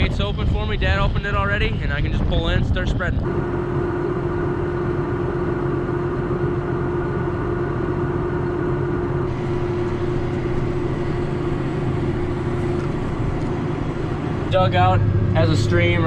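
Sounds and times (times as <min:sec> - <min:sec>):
steady whine: 0:00.0 - 0:16.0
tractor engine running: 0:00.0 - 0:16.0.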